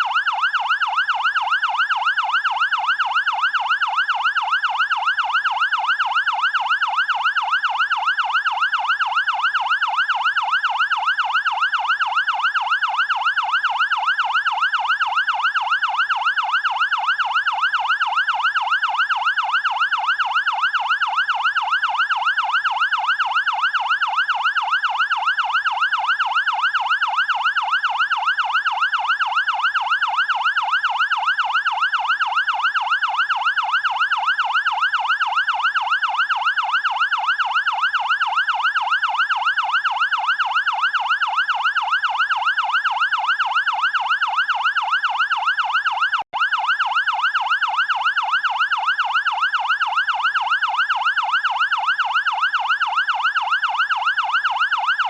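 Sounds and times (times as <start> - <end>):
fire engine siren yelping: 0.0 - 55.0.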